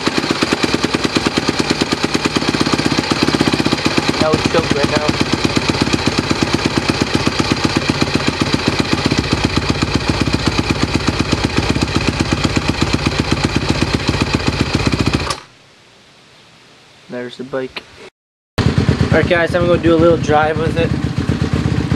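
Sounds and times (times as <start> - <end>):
motorcycle engine idling: 0.0 - 15.4, 18.6 - 21.9.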